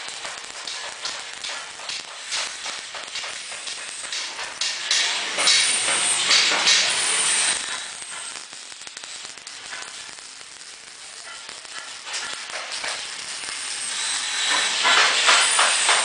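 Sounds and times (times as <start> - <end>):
welding arc crackling: 0.0 - 16.0.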